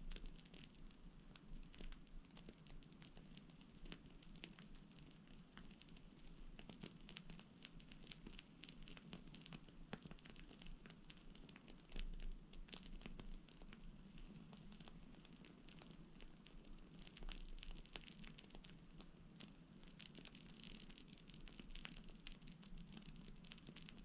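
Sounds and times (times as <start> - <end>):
crackling of burning wood: 0.0 - 24.0.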